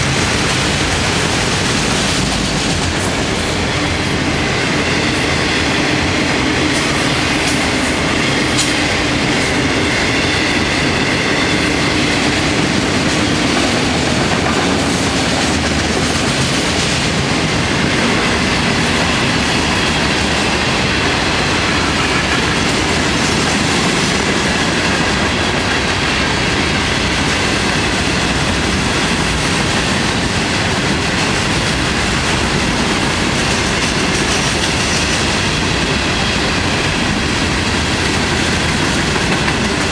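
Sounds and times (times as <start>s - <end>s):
rumble and rattle of train wheels: 0.0s - 39.9s.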